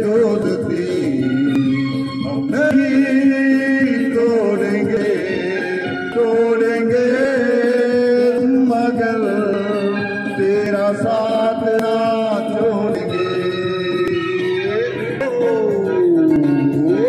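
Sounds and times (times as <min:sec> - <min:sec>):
harmonica melody with chords: 0:00.0 - 0:17.0.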